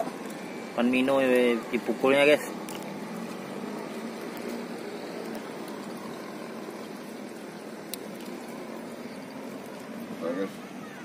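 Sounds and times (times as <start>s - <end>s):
water around a boat: 0.0s - 11.0s.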